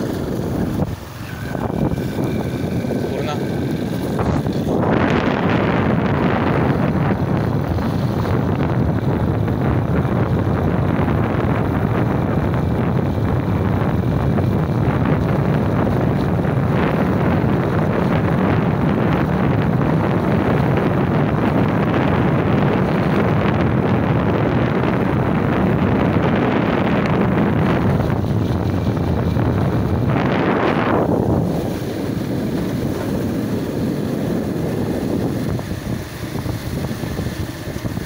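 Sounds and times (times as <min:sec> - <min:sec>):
motorcycle engine running: 0:00.0 - 0:38.0
wind rushing on microphone: 0:00.0 - 0:38.0.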